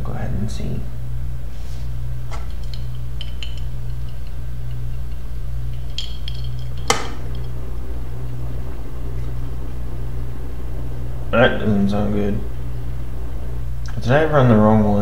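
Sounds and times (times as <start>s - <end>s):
computer humming: 0.0s - 15.0s.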